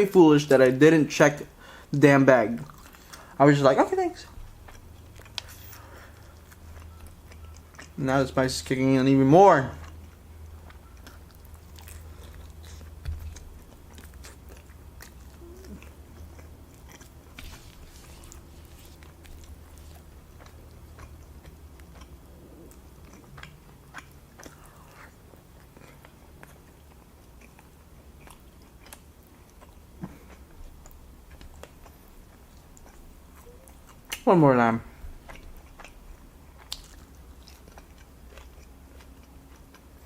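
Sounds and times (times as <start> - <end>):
faint low hum: 0.0 - 40.0
person chewing food: 1.6 - 3.4, 4.2 - 40.0.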